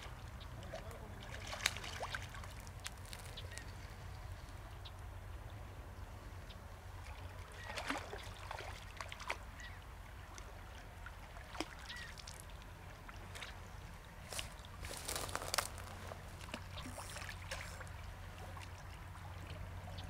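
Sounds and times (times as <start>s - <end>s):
river water lapping: 0.0s - 20.0s.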